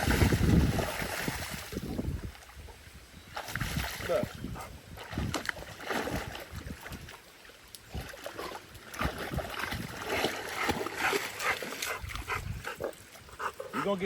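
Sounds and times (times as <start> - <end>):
water splashing from dog paddling: 0.0 - 14.0.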